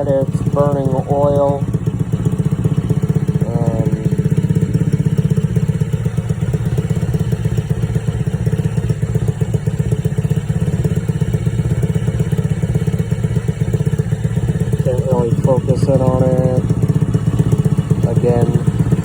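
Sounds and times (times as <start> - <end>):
small engine idling rough: 0.0 - 19.0.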